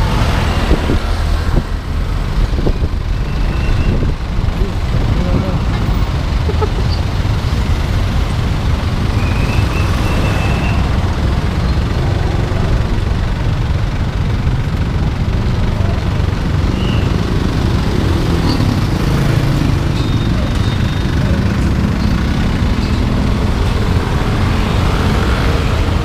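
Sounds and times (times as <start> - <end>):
motor traffic rumble: 0.0 - 26.0
truck idling: 0.0 - 26.0.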